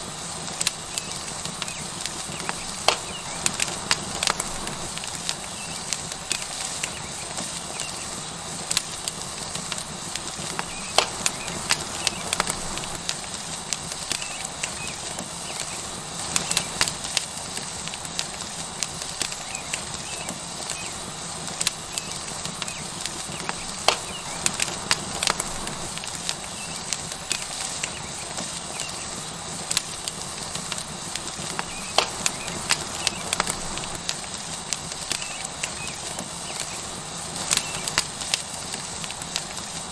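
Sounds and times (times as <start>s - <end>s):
steak sizzling on hot rock: 0.0s - 39.9s
wood fire crackling: 0.0s - 39.9s.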